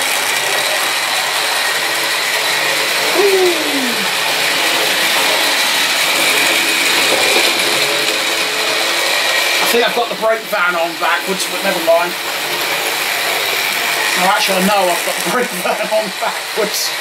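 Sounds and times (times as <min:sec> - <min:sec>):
model train motor whirring: 0:00.0 - 0:17.0
wheels running on track: 0:00.0 - 0:17.0.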